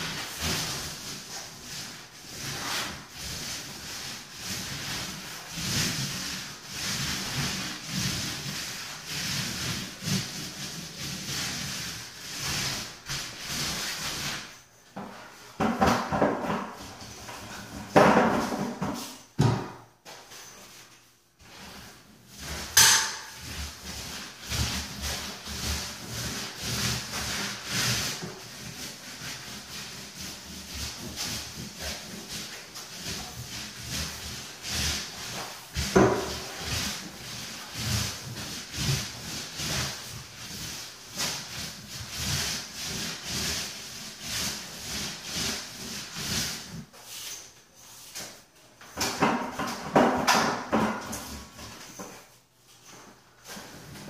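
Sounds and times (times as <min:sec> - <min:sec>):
paint roller rasping on wall: 0:00.0 - 0:54.0
roller scraping in paint bucket: 0:00.0 - 0:54.0.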